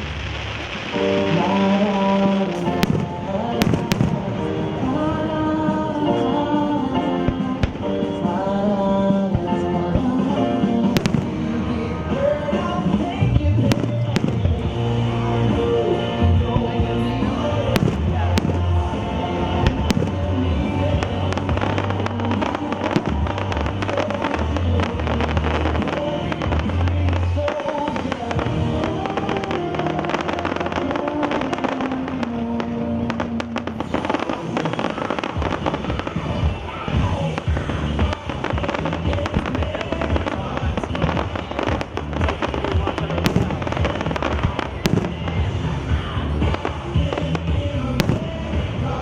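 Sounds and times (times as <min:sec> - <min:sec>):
bass-heavy music over loudspeakers: 0:00.0 - 0:49.0
fireworks bursting and crackling: 0:00.0 - 0:49.0.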